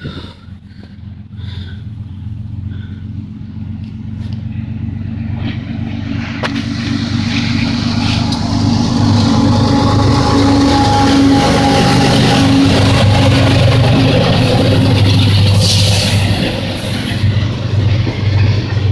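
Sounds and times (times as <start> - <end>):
diesel locomotive engine drone: 0.0 - 18.9
train wheel and rail noise: 0.0 - 18.9.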